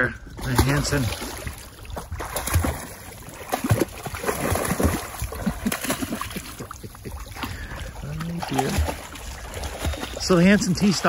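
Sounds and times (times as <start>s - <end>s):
dogs splashing in water: 0.4s - 11.0s.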